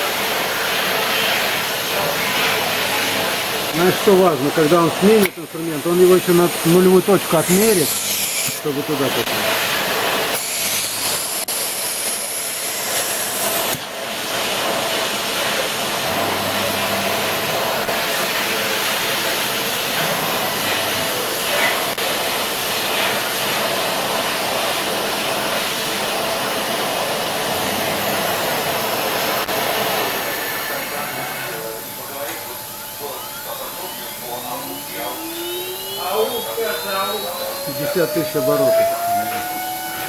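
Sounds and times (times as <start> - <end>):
milling machine spindle whine: 0.0 - 40.0.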